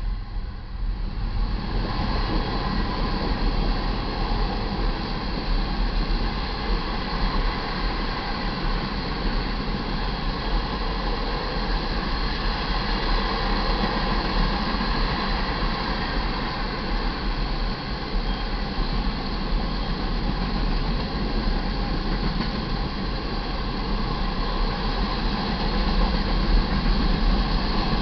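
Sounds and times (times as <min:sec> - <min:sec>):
steel train wheels on rail: 0:00.0 - 0:28.0.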